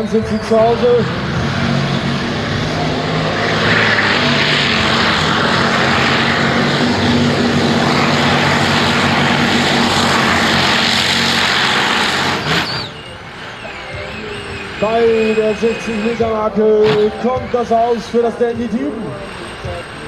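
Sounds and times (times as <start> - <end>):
tractor engine roaring: 0.0 - 20.0.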